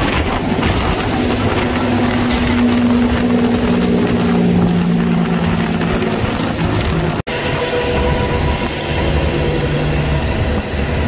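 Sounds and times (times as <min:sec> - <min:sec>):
lower engine drone: 0:00.0 - 0:11.0
truck engine droning: 0:00.0 - 0:11.0
wind and road noise: 0:00.0 - 0:11.0.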